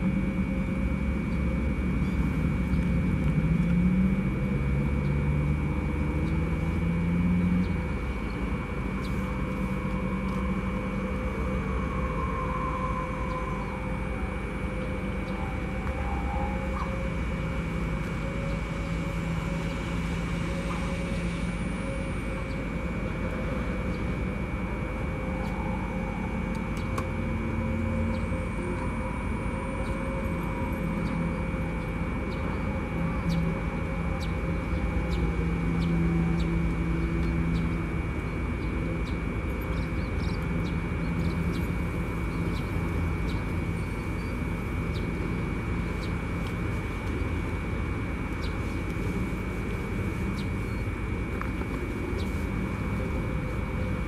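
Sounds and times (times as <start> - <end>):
high-pitched whine: 0.0 - 54.0
train low drone: 0.0 - 54.0.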